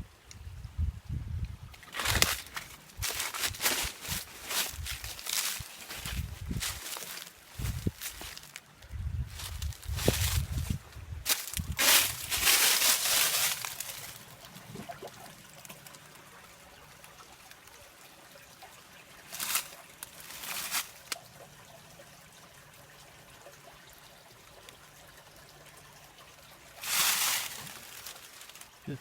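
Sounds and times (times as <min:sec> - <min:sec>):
water trickling: 0:01.6 - 0:29.0.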